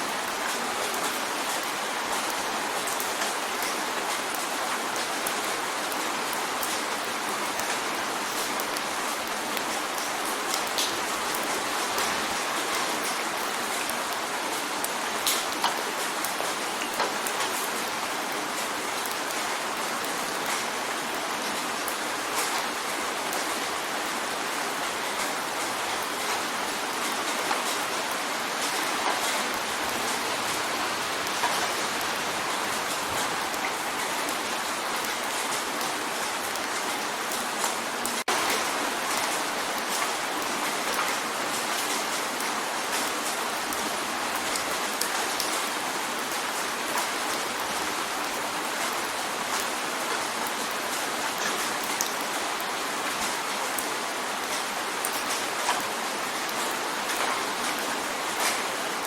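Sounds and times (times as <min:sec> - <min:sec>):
rain drumming on a window: 0:00.0 - 0:59.0.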